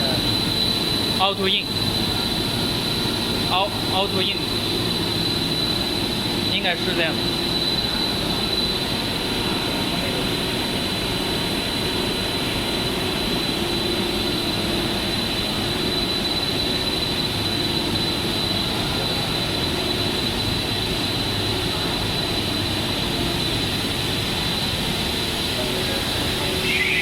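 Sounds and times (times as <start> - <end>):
high-pitched whine: 0.0 - 27.0
machinery hum: 0.0 - 27.0.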